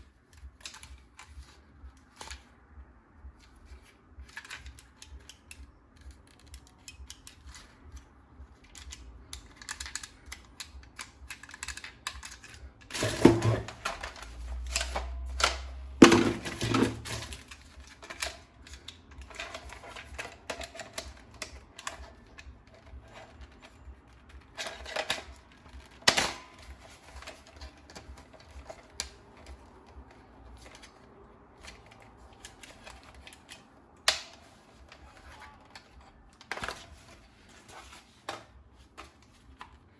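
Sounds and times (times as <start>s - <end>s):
toy gun plastic clicking and rattling: 0.2s - 2.5s, 3.7s - 39.8s.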